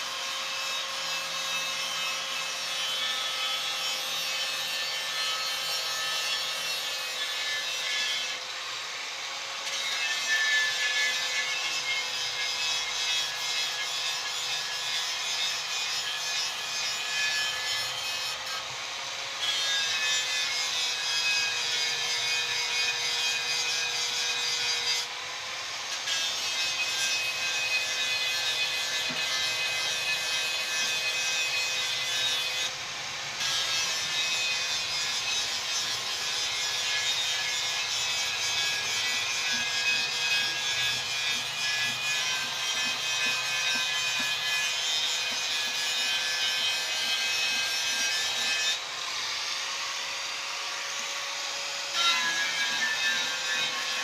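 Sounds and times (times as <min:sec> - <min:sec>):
power tool grinding metal: 0:00.0 - 0:54.0.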